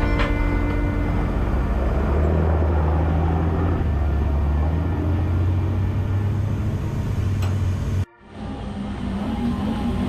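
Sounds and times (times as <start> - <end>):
boat engine droning: 0.0 - 10.0
wind: 0.0 - 10.0.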